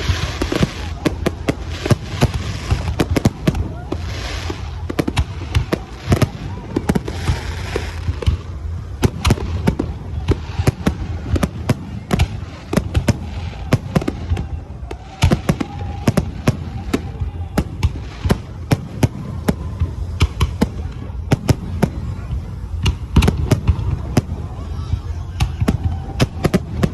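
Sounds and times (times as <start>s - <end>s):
distant firework bursts rumbling: 0.0s - 26.9s
fireworks bangs and crackles: 0.0s - 26.9s.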